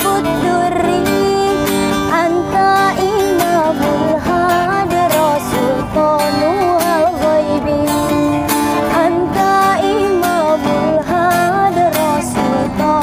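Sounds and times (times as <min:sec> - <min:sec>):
strummed guitar: 0:00.0 - 0:13.0
woman singing: 0:00.0 - 0:13.0.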